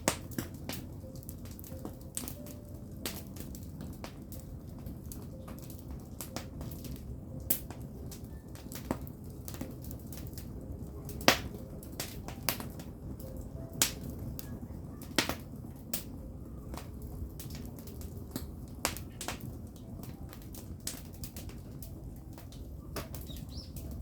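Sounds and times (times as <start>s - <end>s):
firewood crackling and popping: 0.0s - 24.0s
low rumble of fire: 0.0s - 24.0s.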